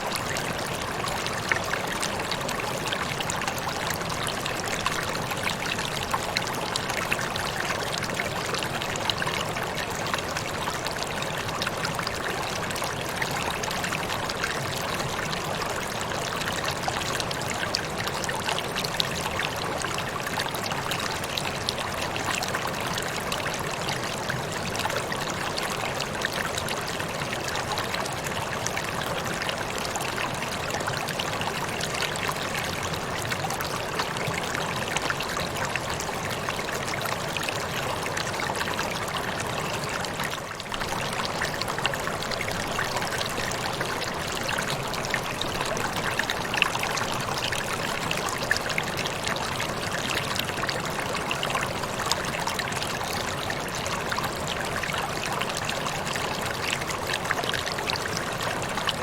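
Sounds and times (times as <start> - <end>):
small water splashes and gurgles: 0.0 - 59.0.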